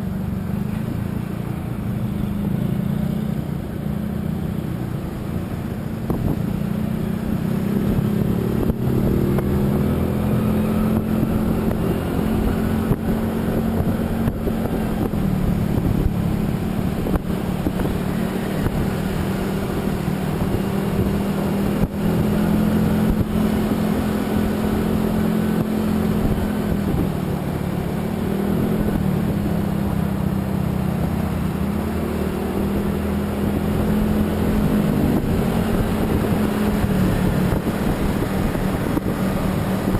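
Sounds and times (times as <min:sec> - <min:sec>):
car engine running: 0:00.0 - 0:39.9
road noise: 0:00.0 - 0:39.9
wind noise: 0:03.6 - 0:39.9.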